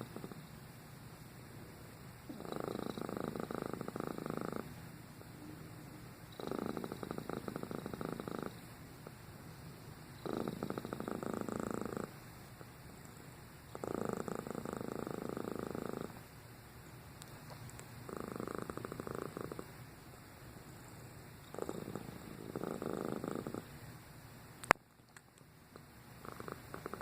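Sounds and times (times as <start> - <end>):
cat purring: 0.0 - 0.7, 1.6 - 9.3, 10.0 - 16.4, 17.2 - 23.8, 25.8 - 27.0.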